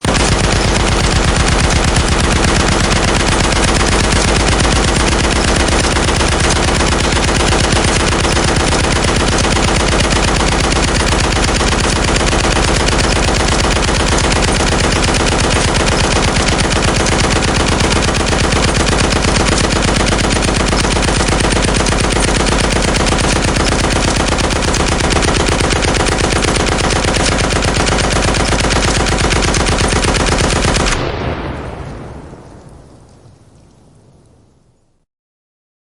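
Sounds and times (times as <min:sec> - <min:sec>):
machine gun firing: 0:00.0 - 0:32.3.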